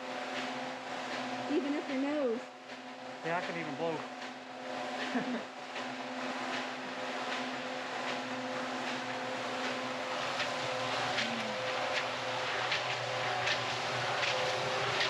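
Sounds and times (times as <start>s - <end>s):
concrete mixer running: 0.0s - 15.0s.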